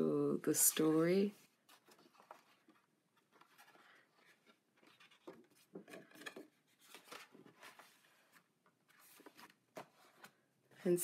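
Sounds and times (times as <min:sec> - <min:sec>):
book pages rustling: 0:00.7 - 0:10.5.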